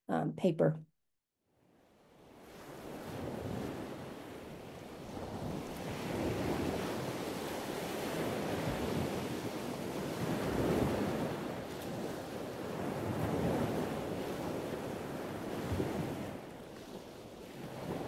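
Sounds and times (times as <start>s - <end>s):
ocean surf waves: 2.0s - 18.0s.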